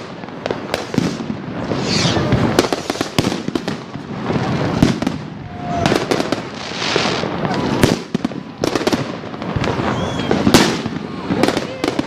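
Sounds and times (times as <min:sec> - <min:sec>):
fireworks bangs and cracks: 0:00.0 - 0:12.0
fireworks crackling: 0:00.0 - 0:12.0.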